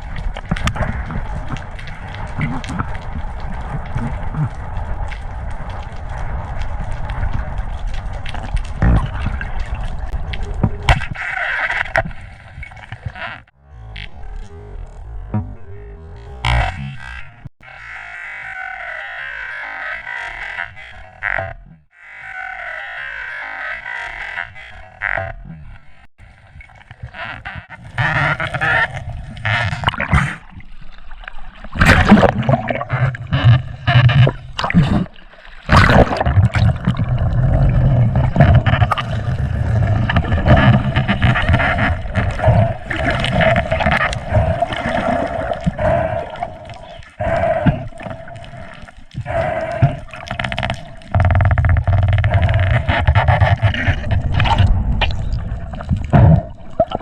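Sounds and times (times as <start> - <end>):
water splashing and gurgling: 0.0 - 17.5, 26.2 - 57.0.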